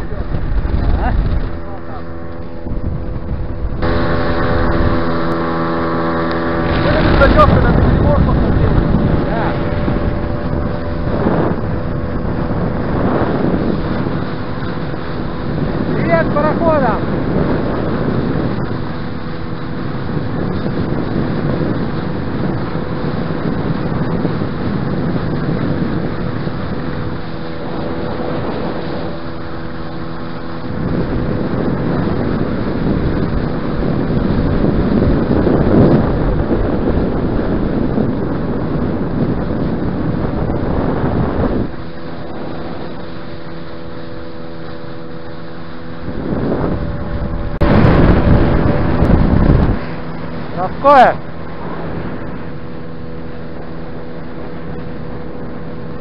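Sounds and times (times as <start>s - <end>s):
outboard motor running: 0.0s - 56.0s
water rushing past hull: 0.0s - 56.0s
wind buffeting microphone: 0.0s - 56.0s.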